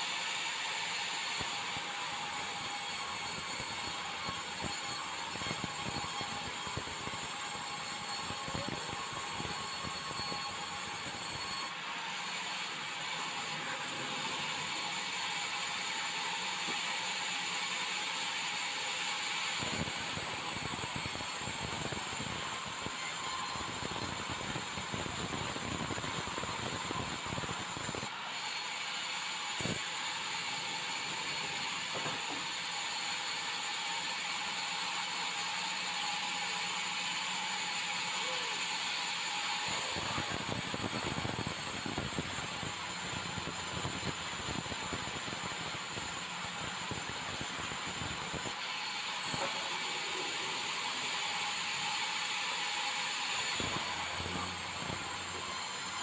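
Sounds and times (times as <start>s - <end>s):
sawmill saw cutting timber: 0.0s - 56.0s.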